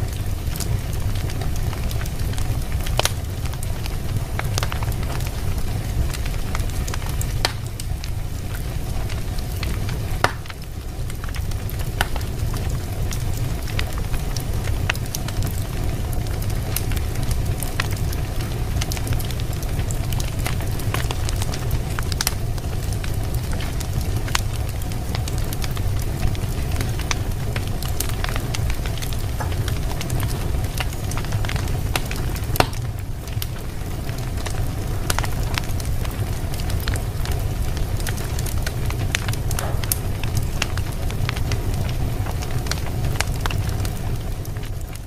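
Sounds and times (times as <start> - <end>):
fire crackling and popping: 0.0 - 45.0.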